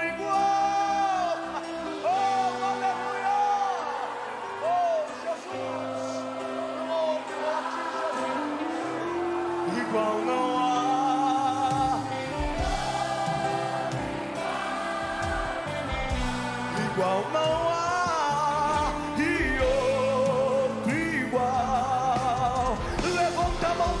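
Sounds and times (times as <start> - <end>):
band accompaniment: 0.0 - 24.0
people singing with vibrato: 0.0 - 24.0.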